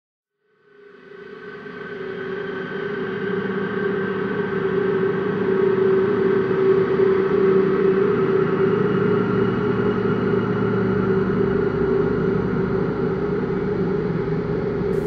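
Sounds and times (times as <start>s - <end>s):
dark ambient drone: 1.0s - 15.0s.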